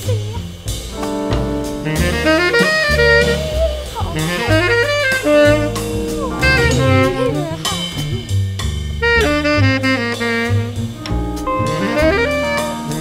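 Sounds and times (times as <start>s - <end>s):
bass: 0.0s - 13.0s
drum kit: 0.0s - 13.0s
saxophone solo: 1.0s - 8.4s, 9.0s - 13.0s.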